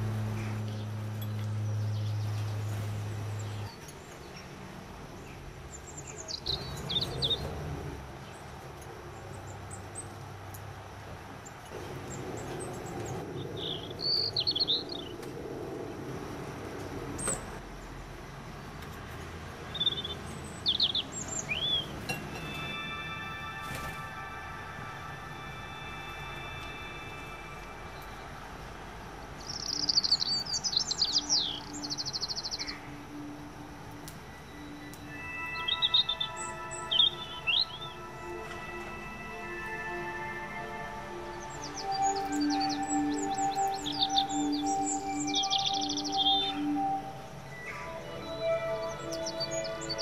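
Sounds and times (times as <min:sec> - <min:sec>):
low steady hum: 0:00.0 - 0:49.8
small songbirds chirping: 0:00.0 - 0:50.0.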